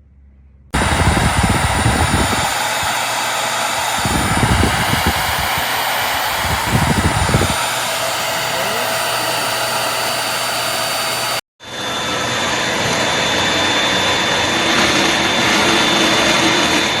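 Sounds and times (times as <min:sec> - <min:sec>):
vacuum cleaner whirring: 0:00.8 - 0:17.0.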